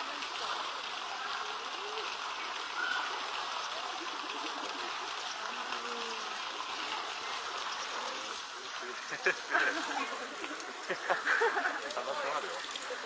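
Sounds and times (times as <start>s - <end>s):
water running into a pool: 0.0s - 13.0s.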